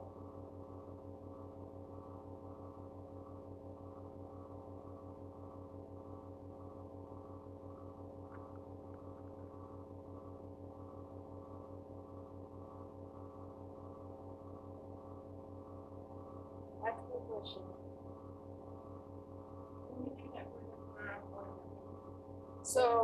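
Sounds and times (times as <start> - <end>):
pulsing electrical hum: 0.0 - 23.0.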